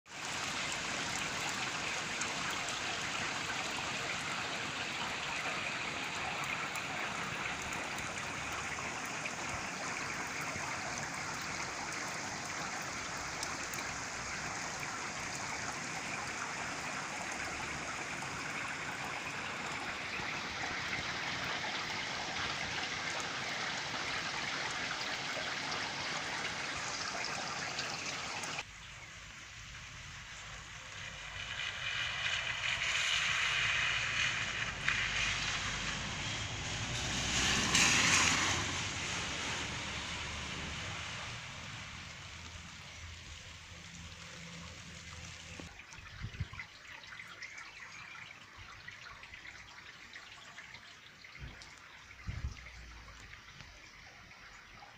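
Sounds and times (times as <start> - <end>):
heavy rain pouring: 0.1 - 45.7.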